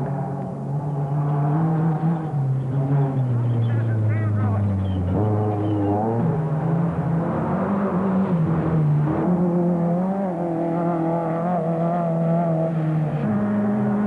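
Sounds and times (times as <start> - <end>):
racing vehicle engine running hard: 0.0 - 14.0.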